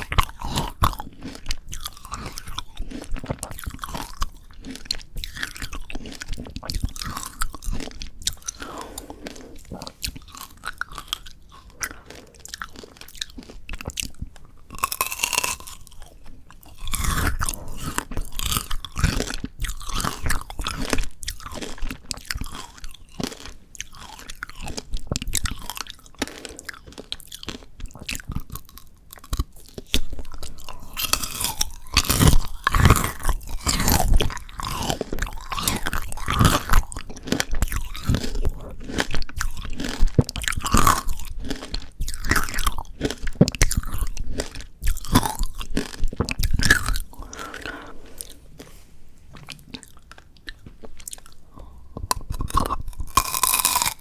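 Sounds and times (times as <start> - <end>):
candy shell crunching between teeth: 0.0 - 48.7, 49.4 - 54.0
chewing icy grapes: 0.0 - 54.0.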